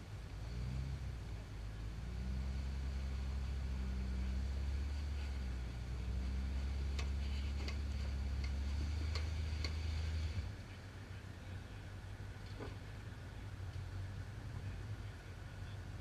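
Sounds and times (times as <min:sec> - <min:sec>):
buggy engine droning: 0:00.0 - 0:16.0.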